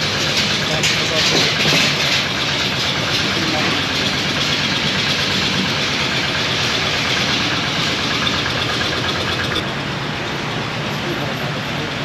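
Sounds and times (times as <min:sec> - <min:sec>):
steady rush of noise: 0:00.0 - 0:12.0
vehicle engine running: 0:00.0 - 0:12.0.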